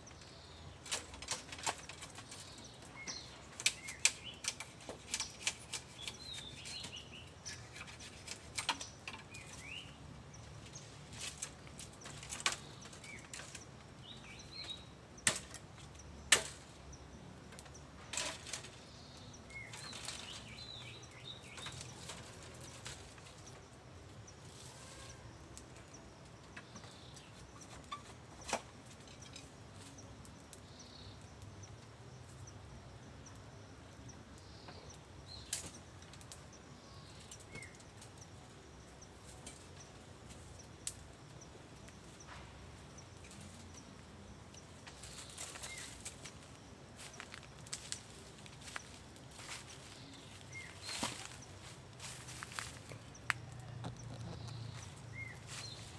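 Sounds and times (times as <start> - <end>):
dry leaves and twigs crackling: 0.0 - 55.9.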